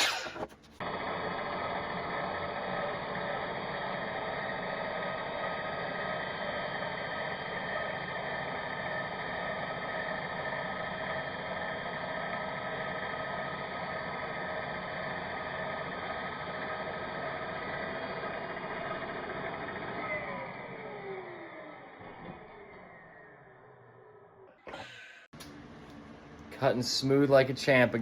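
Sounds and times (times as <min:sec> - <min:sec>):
miter saw motor running: 0:00.0 - 0:25.4
saw blade spinning down: 0:00.0 - 0:25.4.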